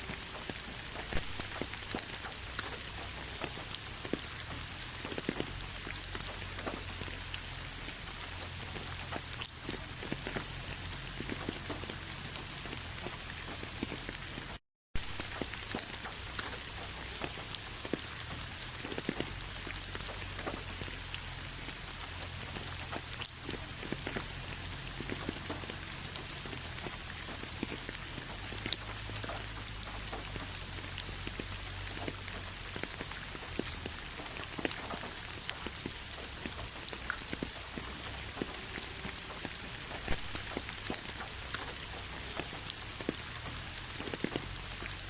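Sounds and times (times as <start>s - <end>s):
raindrops tapping close by: 0.0s - 45.0s
steady rain: 0.0s - 45.0s.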